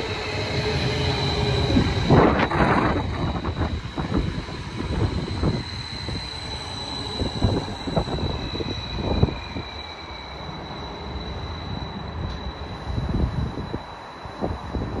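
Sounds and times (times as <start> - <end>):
faint falling whine: 0.0 - 15.0
high electric whine: 0.0 - 15.0
train wheels rumbling on rail: 0.0 - 15.0.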